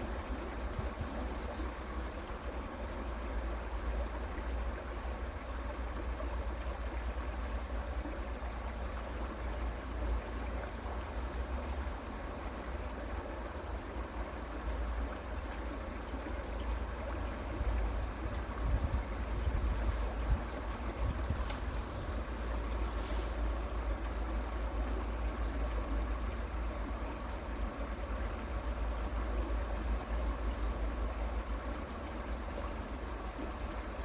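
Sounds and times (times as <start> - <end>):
creek water flowing: 0.0 - 34.0
low water rumble: 0.0 - 34.0.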